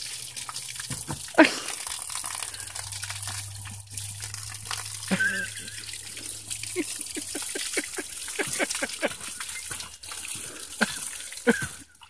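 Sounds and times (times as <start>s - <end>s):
water jet spraying and spattering: 0.0s - 12.0s.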